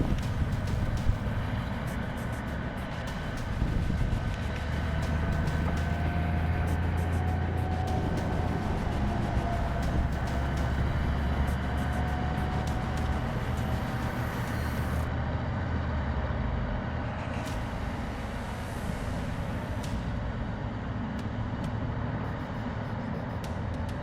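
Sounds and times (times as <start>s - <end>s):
bulldozer diesel engine rumbling: 0.0s - 22.2s.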